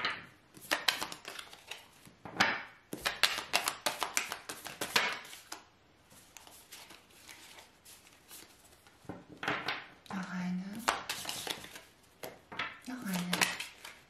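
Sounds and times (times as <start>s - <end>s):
cards being shuffled: 0.5s - 2.1s, 2.9s - 9.8s, 10.7s - 14.0s.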